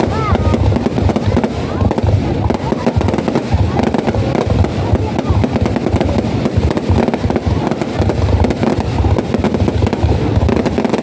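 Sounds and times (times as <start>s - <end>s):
fireworks sharp cracks: 0.0s - 11.0s
rumble of low firework bangs: 0.0s - 11.0s.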